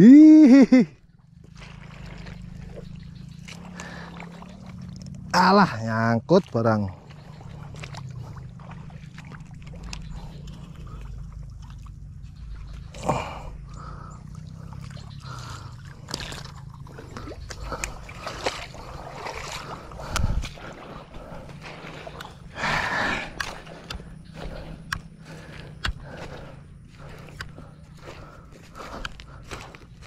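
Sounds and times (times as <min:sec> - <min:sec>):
steady low rumble: 0:00.0 - 0:30.0
water splashing: 0:00.0 - 0:30.0.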